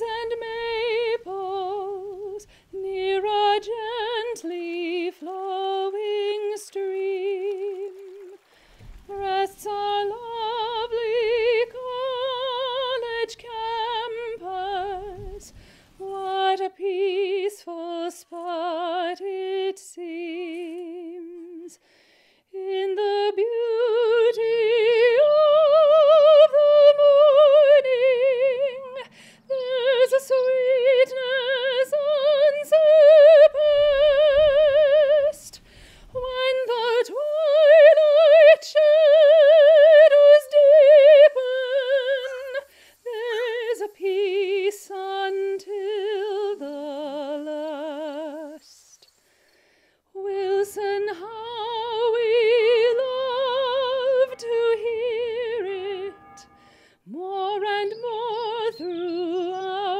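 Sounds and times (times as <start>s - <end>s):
woman singing classical: 0.0s - 21.8s, 22.5s - 49.0s, 50.1s - 59.9s.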